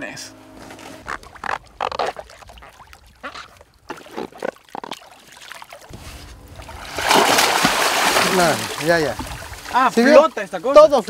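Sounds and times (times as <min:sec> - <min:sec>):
water splashing: 0:00.9 - 0:11.0.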